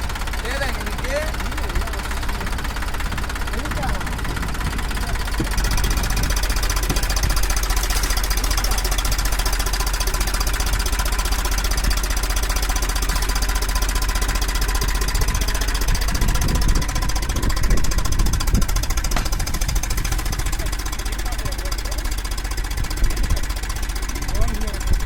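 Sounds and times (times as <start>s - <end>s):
tractor diesel engine knocking: 0.0s - 25.0s.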